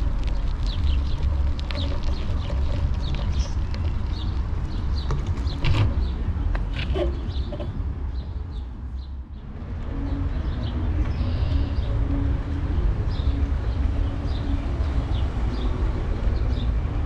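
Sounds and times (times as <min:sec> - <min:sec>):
birds chirping: 0:00.0 - 0:17.0
low rumble: 0:00.0 - 0:17.0.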